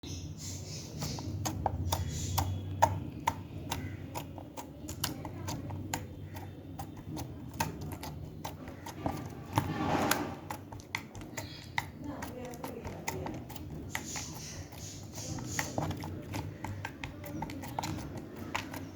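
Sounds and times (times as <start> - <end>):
wet squish: 0.7 - 18.9.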